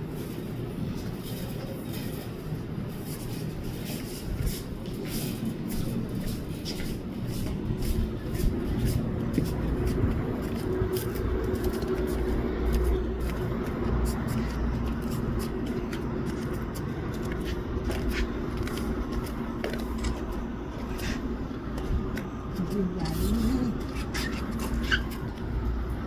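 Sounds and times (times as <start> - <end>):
faint clicks and rustles: 0.0 - 26.0
low mechanical hum: 0.0 - 26.0.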